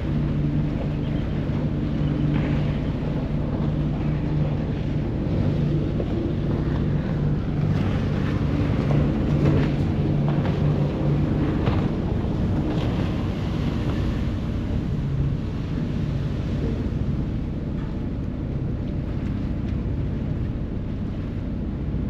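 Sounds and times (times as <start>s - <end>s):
diesel engine humming: 0.0s - 21.4s
water rushing in wake: 0.0s - 22.0s
wind buffeting microphone: 0.0s - 22.0s.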